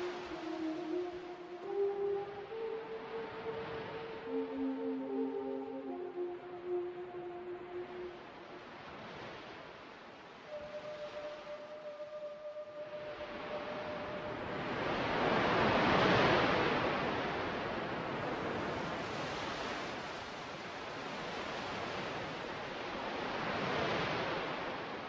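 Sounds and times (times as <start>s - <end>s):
ocean waves washing in: 0.0s - 25.0s.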